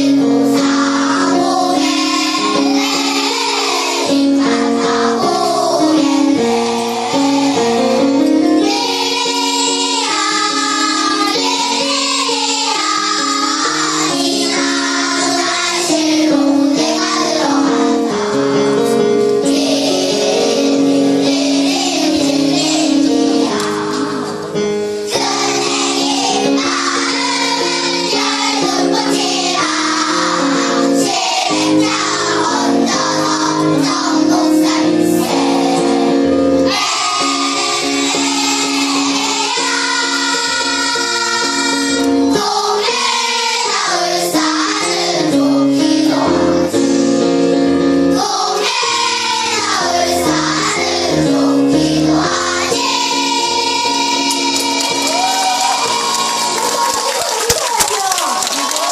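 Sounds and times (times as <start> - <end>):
children singing: 0.0 - 47.3, 48.1 - 57.1
musical accompaniment: 0.0 - 58.9.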